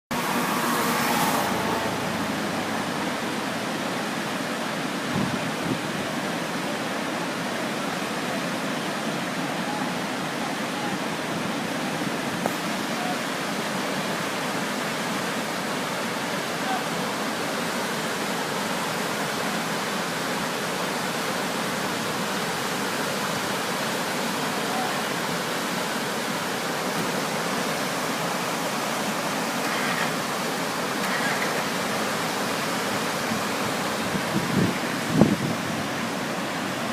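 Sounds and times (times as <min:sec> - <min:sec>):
river rapids rushing: 0:00.1 - 0:36.9.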